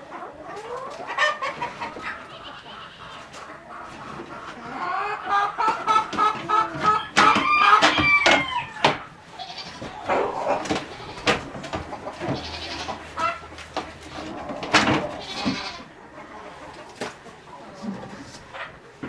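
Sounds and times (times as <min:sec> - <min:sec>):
farm animals calling: 0:00.0 - 0:19.0.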